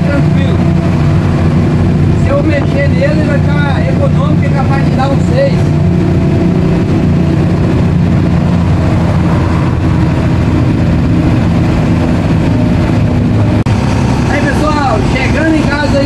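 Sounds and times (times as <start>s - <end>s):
bus engine running: 0.0s - 16.0s
tyre and wind drone: 0.0s - 16.0s.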